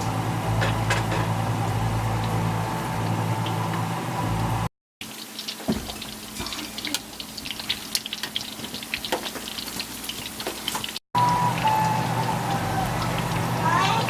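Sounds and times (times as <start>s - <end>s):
potatoes deep-frying in oil: 0.0s - 14.0s.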